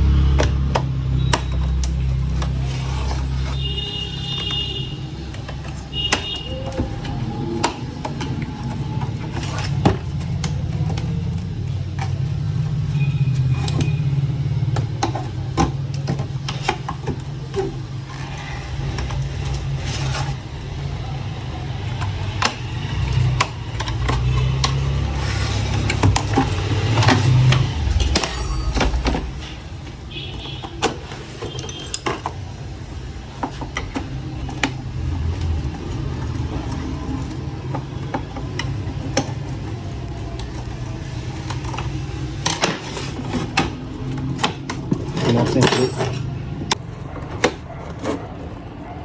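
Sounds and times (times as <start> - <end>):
clicks and knocks of tools: 0.3 - 48.7.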